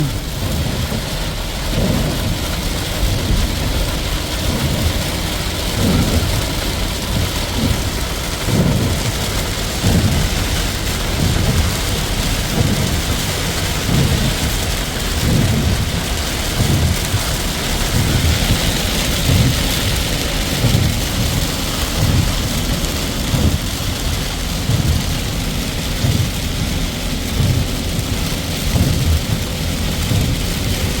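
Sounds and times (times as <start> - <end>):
low rumbling pulses: 0.0 - 31.0
rain hiss: 0.0 - 31.0.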